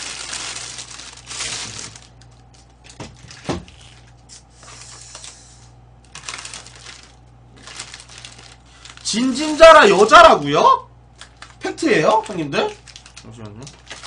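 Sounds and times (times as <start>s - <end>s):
plastic packaging crinkling: 0.0s - 5.4s, 6.0s - 10.5s, 11.1s - 14.0s.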